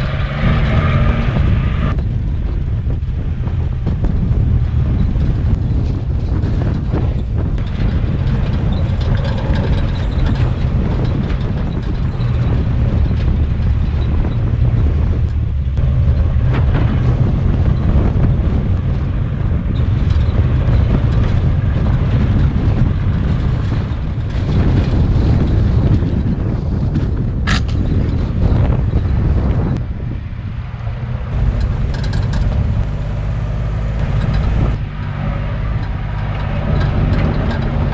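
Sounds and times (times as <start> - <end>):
vehicle engine rumbling: 0.0 - 37.9
wind buffeting microphone: 0.0 - 37.9.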